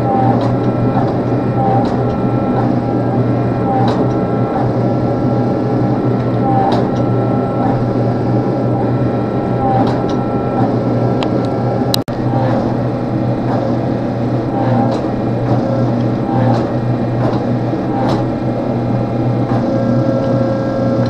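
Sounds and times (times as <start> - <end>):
forge blower rushing: 0.0 - 21.0.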